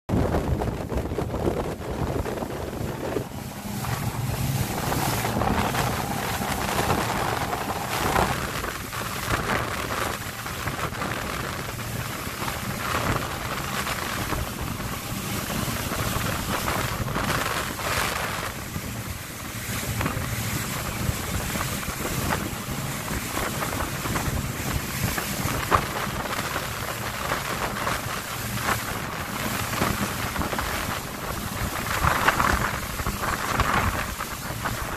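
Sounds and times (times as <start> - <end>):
boat engine drone: 0.1 - 34.9
wind buffeting microphone: 0.1 - 34.9
spray hissing off hull: 1.2 - 34.9.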